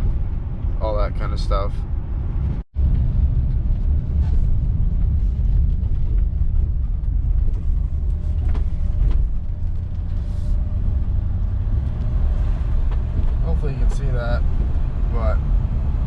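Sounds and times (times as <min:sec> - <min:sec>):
car engine rumble: 0:00.0 - 0:16.0
road and tyre noise: 0:00.0 - 0:16.0.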